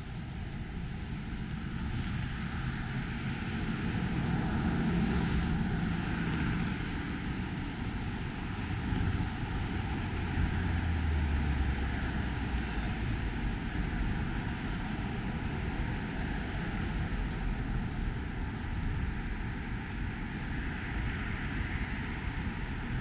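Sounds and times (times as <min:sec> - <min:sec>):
outdoor noise: 0:00.0 - 0:23.0.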